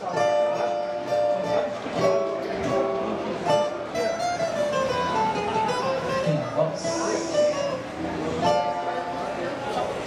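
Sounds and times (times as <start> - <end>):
plucked strings melody: 0.0 - 10.0.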